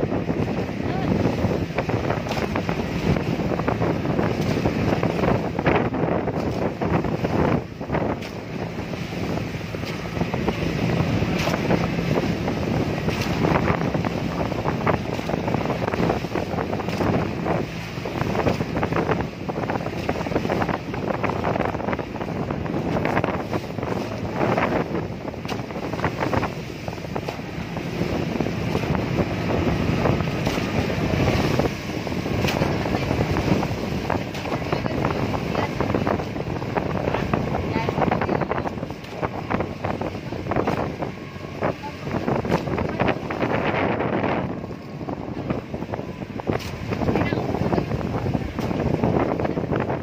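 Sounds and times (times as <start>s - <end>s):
boat engine drone: 0.0s - 50.0s
water splashing: 0.0s - 50.0s
wind buffeting microphone: 0.0s - 50.0s.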